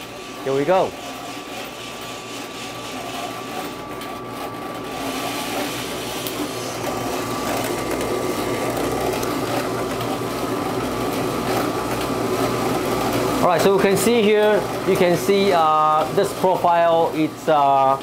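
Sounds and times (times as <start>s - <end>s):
coffee roaster whirring: 0.0s - 18.0s.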